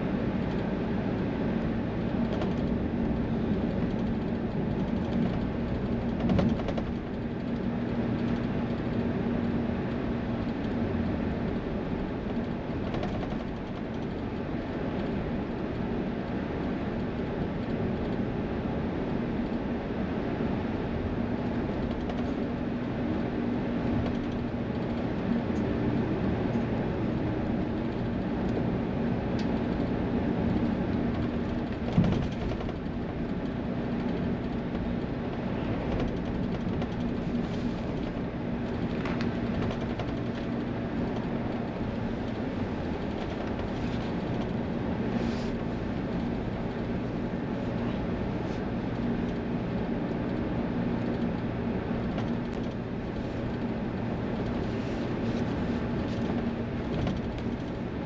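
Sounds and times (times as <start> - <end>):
highway vehicle noise: 0.0 - 58.0.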